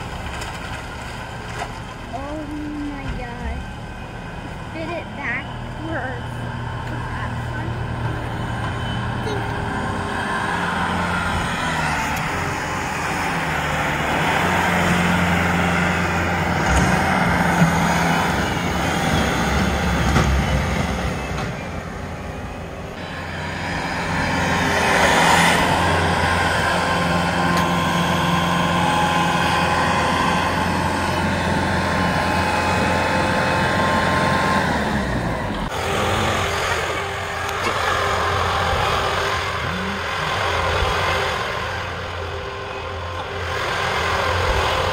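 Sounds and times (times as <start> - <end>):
snowblower rushing noise: 0.0 - 44.9
tractor engine drone: 0.0 - 44.9.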